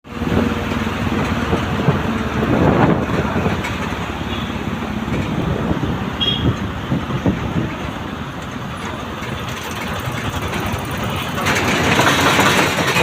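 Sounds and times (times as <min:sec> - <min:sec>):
road noise: 0:00.0 - 0:13.0
vehicle engine rumble: 0:00.1 - 0:13.0.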